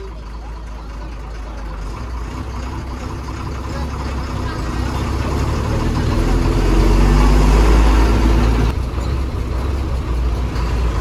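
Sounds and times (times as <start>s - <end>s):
diesel engine rumble from inside bus: 0.0s - 11.0s.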